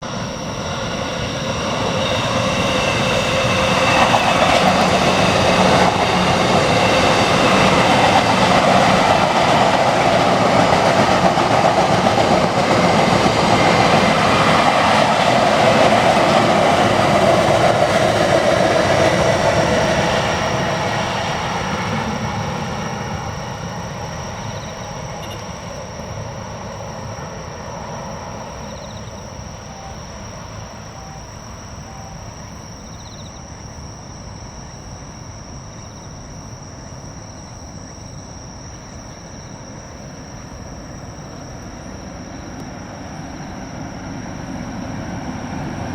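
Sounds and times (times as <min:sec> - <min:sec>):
electric train passing: 0:00.0 - 0:45.9.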